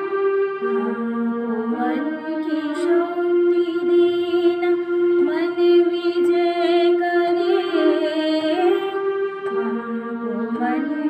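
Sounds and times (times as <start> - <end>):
woman singing: 0.7 - 11.0.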